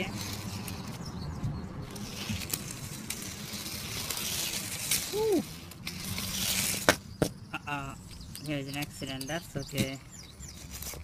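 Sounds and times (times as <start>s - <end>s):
toy engines rustling and rattling: 0.0s - 1.2s, 1.8s - 11.0s.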